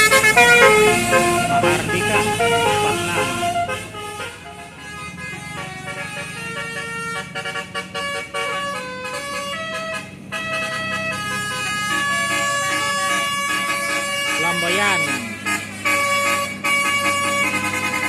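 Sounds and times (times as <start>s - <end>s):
bus engine humming: 0.0s - 18.0s
multi-tone air horn playing tune: 0.0s - 18.0s.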